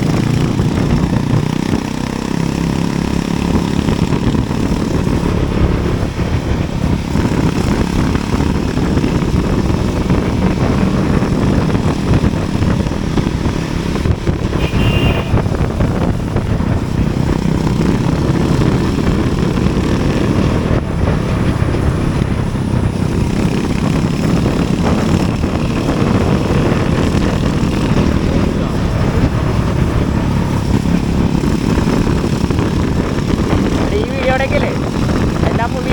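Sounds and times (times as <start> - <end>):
vehicle rumbling on road: 0.0 - 35.9
wind: 0.0 - 35.9.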